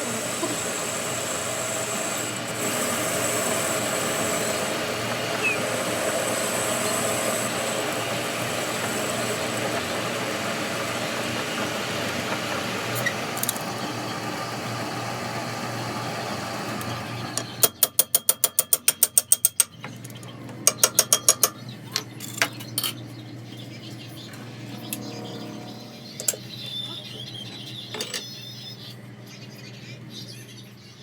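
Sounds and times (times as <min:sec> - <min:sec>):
machine humming: 0:00.0 - 0:17.8, 0:19.8 - 0:30.9.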